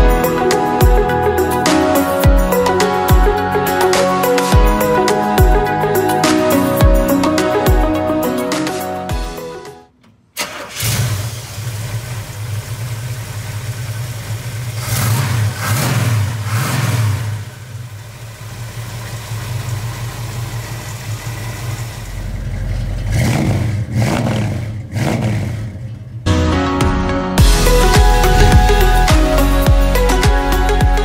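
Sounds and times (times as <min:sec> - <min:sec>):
engine idling and revving: 0:00.0 - 0:08.9, 0:10.0 - 0:26.3, 0:27.4 - 0:31.0.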